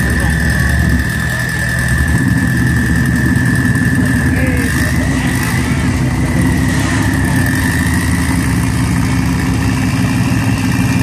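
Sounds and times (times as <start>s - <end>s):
car engine idling loudly: 0.0s - 11.0s.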